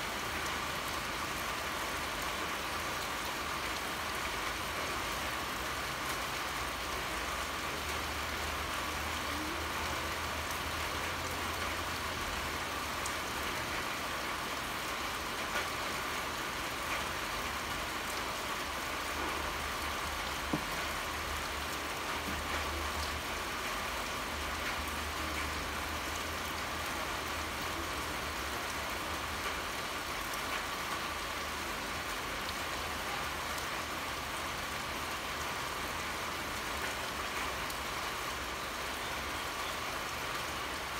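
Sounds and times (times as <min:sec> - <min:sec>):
steady pouring rain: 0:00.0 - 0:40.9.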